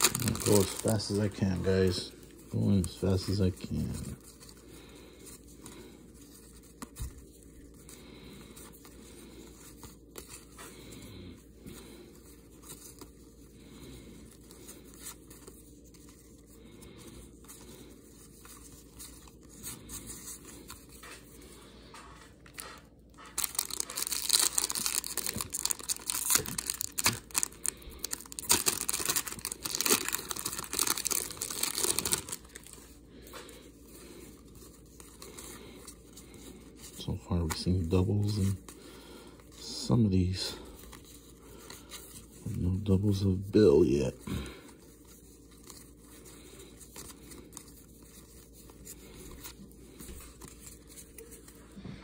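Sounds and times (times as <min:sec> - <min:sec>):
cards rustling and scraping: 0:00.0 - 0:51.8.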